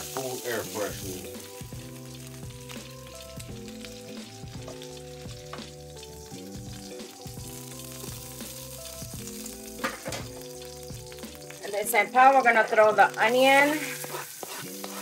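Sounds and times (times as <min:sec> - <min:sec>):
background music of held notes: 0:00.0 - 0:15.0
oil sizzling in a frying pan: 0:00.0 - 0:15.0.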